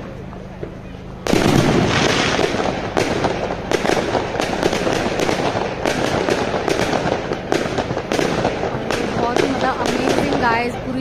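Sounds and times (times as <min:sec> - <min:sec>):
fireworks crackling: 0:00.0 - 0:11.0
fireworks sharp bangs: 0:00.0 - 0:11.0.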